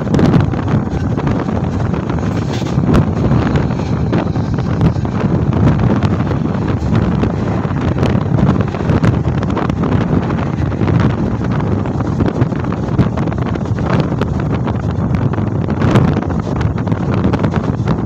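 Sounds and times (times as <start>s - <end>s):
train wheels rumbling on rails: 0.0s - 18.0s
wind buffeting the microphone: 0.0s - 18.0s.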